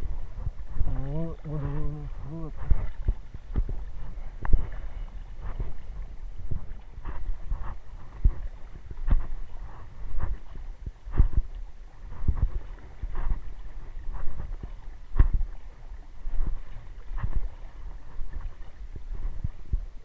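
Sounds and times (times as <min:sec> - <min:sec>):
person wading through water: 0:00.0 - 0:20.0.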